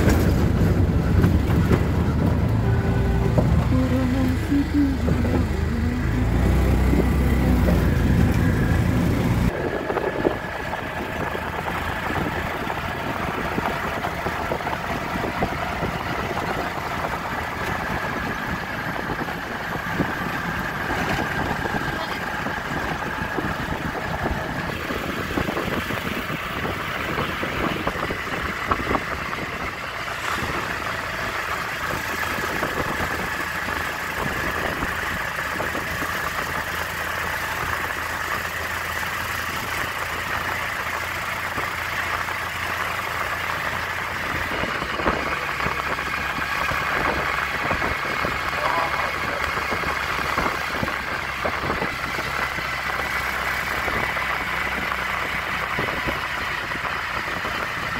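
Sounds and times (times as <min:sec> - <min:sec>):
auto-rickshaw engine running: 0:00.0 - 0:57.9
road and wind noise: 0:00.0 - 0:57.9.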